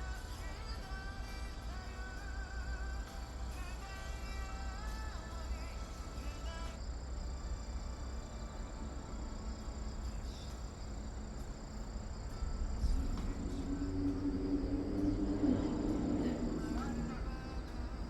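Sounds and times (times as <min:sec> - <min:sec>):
crickets chirring: 0:00.0 - 0:18.0
low wind rumble: 0:00.0 - 0:18.0.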